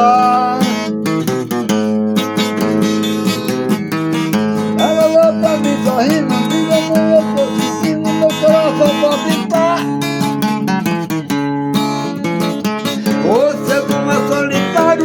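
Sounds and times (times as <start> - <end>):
acoustic guitar strumming: 0.0 - 15.0
guitar melody line: 0.0 - 15.0.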